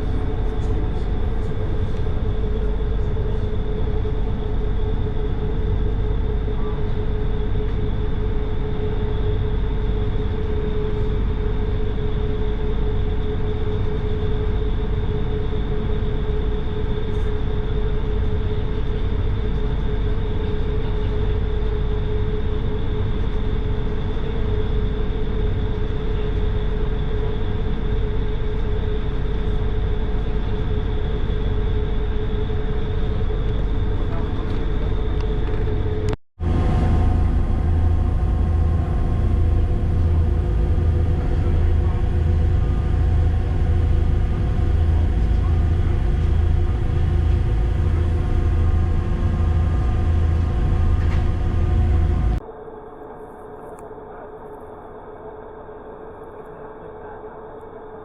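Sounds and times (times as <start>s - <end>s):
ferry diesel engines droning: 0.0s - 52.4s
wind: 0.0s - 58.0s.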